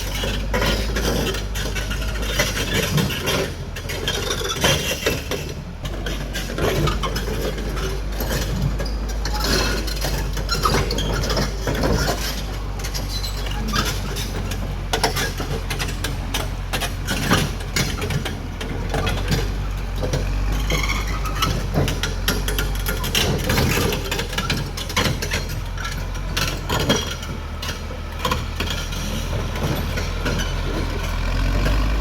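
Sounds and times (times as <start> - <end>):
bulldozer diesel engine running: 0.0 - 32.0
metal clanks and rattles: 0.0 - 32.0.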